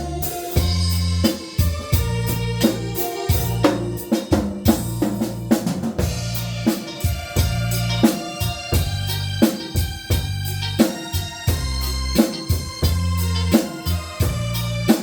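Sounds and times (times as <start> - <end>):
bass line: 0.0 - 15.0
drum kit beat: 0.0 - 15.0
electronic keyboard: 0.0 - 15.0.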